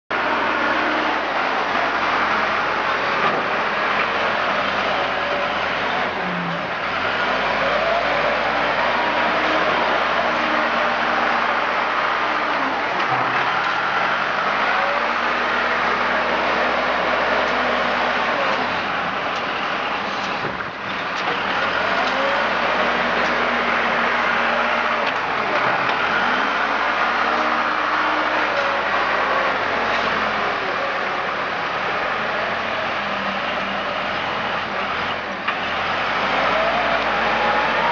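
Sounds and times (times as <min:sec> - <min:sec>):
heavy machine engine running: 0:00.1 - 0:37.9.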